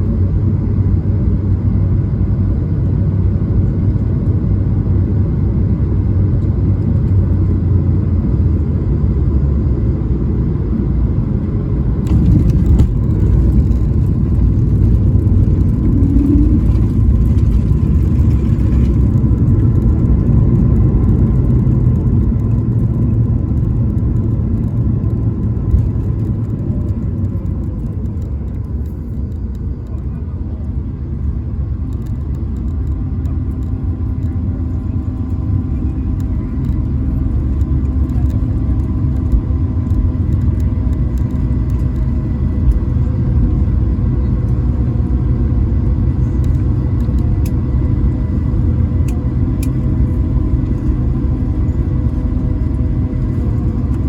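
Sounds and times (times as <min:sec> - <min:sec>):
low engine rumble in aircraft cabin: 0:00.0 - 0:54.0.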